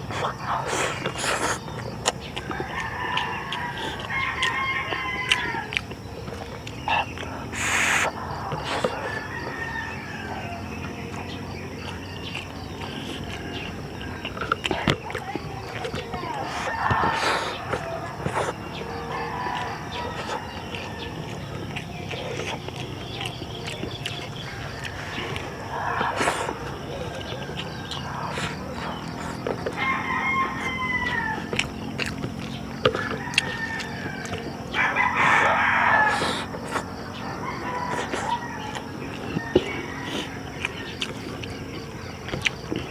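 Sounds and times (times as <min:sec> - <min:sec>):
birds: 0:00.0 - 0:42.9
chickens: 0:00.0 - 0:42.9
insects: 0:00.0 - 0:42.9
rooster crowing: 0:01.6 - 0:42.9.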